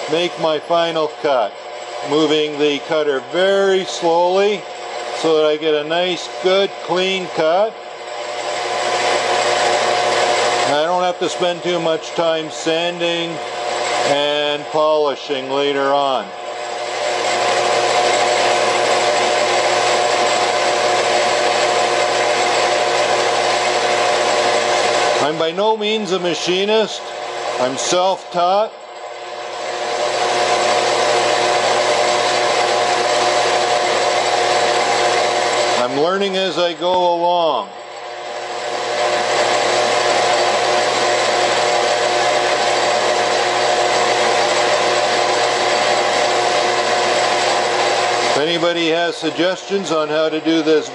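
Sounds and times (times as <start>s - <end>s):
metal lathe whining: 0.0s - 50.9s.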